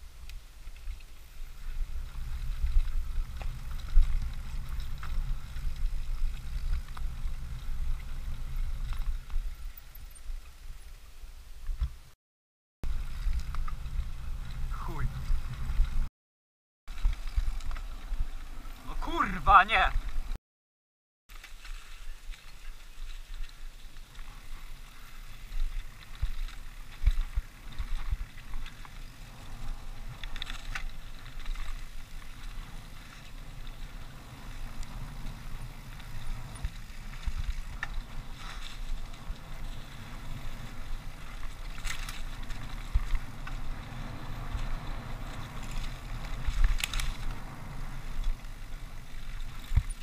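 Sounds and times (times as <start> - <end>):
tyres rolling over dirt and leaves: 0.0 - 11.8, 12.8 - 16.1, 16.9 - 20.4, 21.3 - 50.0
bike rattling over bumps: 0.0 - 12.2, 12.8 - 16.1, 16.9 - 20.4, 21.3 - 50.0
wind rumble on microphone: 0.0 - 12.2, 12.8 - 16.1, 21.5 - 50.0.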